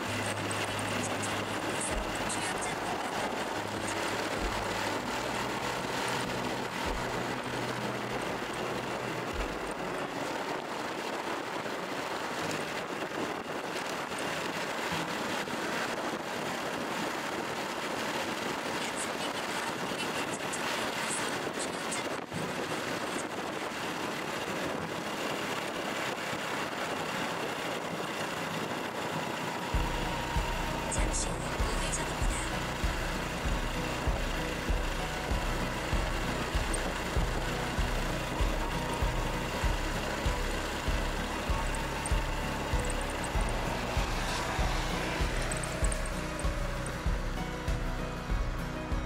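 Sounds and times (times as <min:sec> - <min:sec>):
small motorcycle engine: 0:00.0 - 0:15.3, 0:24.0 - 0:48.7
wind and road rush: 0:00.0 - 0:49.0.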